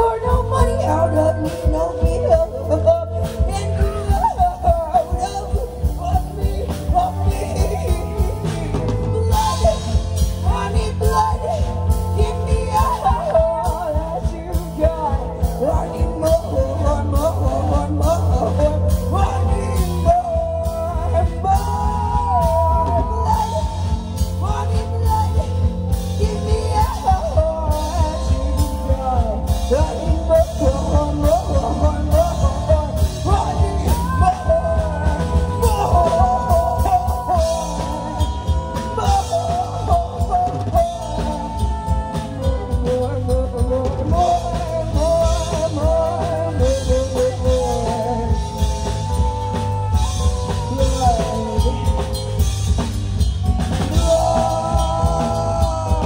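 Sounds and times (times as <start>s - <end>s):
drum kit beat: 0.0s - 56.0s
guitar: 0.0s - 56.0s
women singing: 0.0s - 56.0s.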